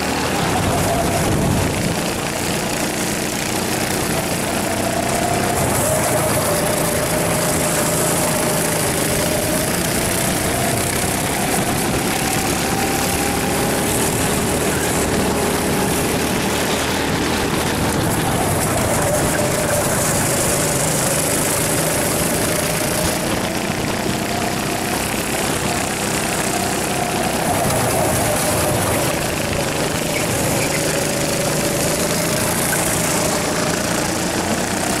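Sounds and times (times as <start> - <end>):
kart engine running hard: 0.0 - 35.0.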